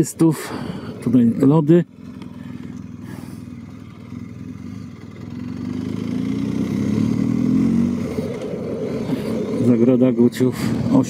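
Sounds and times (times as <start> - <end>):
motorcycle engine accelerating: 0.6 - 11.0.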